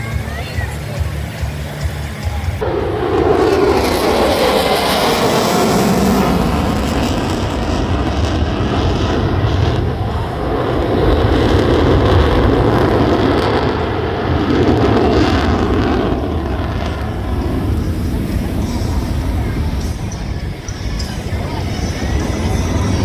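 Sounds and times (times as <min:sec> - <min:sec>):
airplane flying past low: 0:00.8 - 0:23.0.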